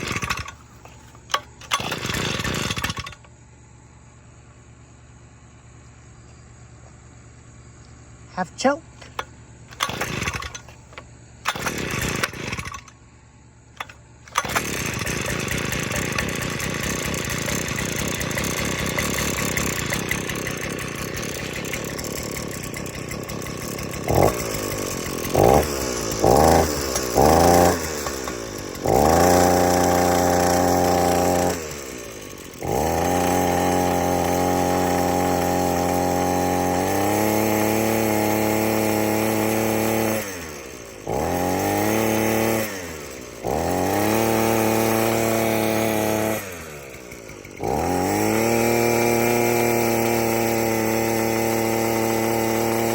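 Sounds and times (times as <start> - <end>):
two-stroke tiller engine running: 0.0 - 3.3, 8.4 - 12.9, 13.8 - 52.9.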